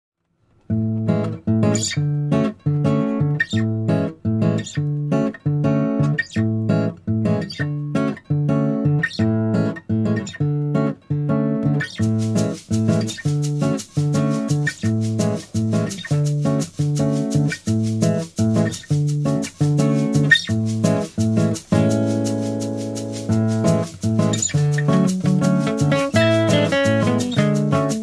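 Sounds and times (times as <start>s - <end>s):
acoustic guitar strumming chords: 0.7s - 28.0s.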